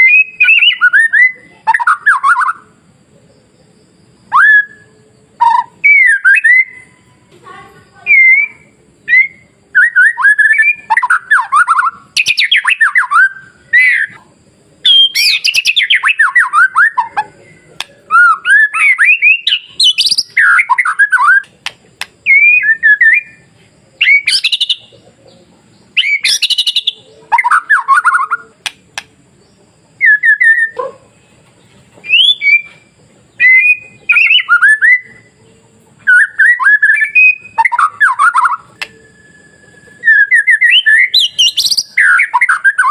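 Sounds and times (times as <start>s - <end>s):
bird singing whistles and trills: 0.0s - 2.8s, 3.7s - 7.2s, 7.9s - 31.3s, 32.0s - 42.9s.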